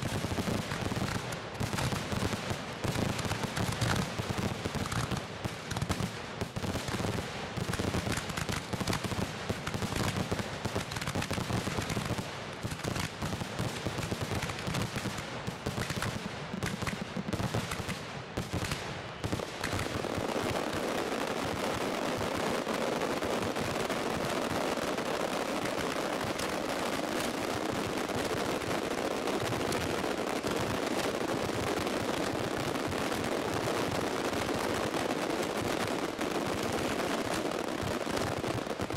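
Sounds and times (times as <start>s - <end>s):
fireworks launching and bursting: 0.0s - 38.9s.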